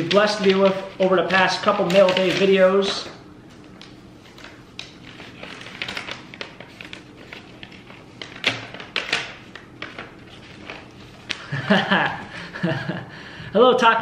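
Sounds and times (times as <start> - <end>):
paper rustling and crackling: 0.0 - 11.9.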